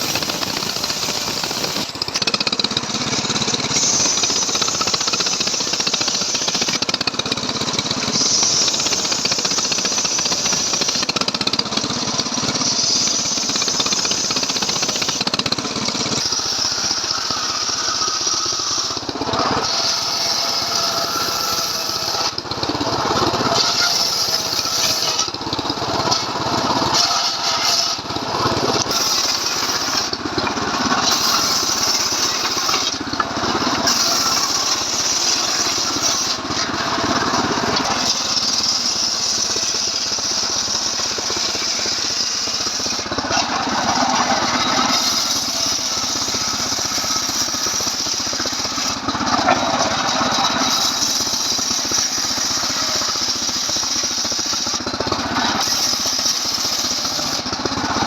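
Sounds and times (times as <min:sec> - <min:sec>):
chainsaw engine running hard: 0:00.0 - 0:58.0
saw blade ripping log: 0:00.0 - 0:58.0.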